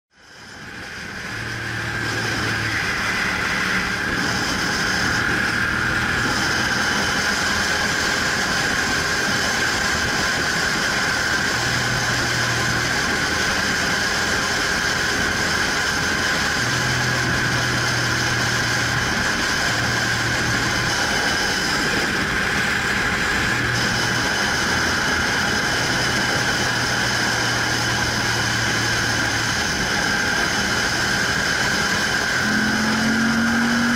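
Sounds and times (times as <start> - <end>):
vehicle engine cruising: 0.1 - 33.9
wind and road noise: 0.1 - 33.9.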